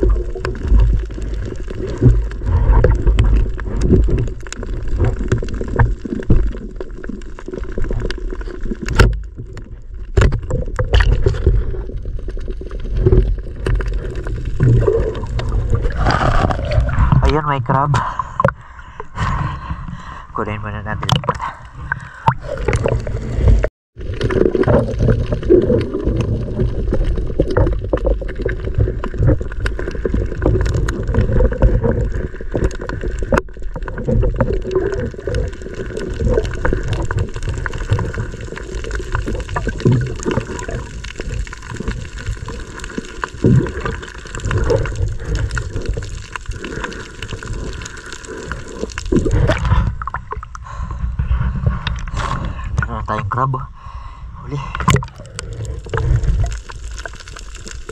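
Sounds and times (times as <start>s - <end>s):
underwater water sloshing: 0.0s - 54.0s, 54.6s - 57.9s.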